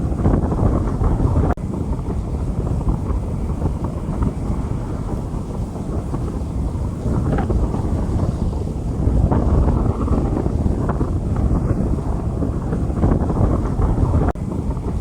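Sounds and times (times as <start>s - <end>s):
heavy low rumble: 0.0s - 15.0s
rain falling on street: 0.0s - 15.0s.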